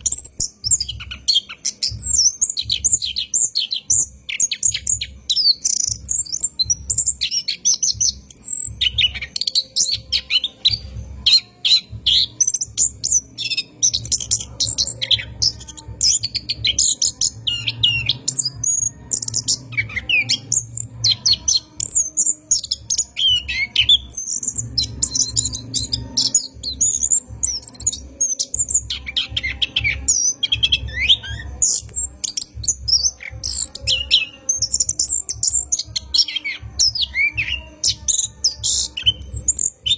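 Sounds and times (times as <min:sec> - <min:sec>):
thrush singing: 0:00.0 - 0:39.9.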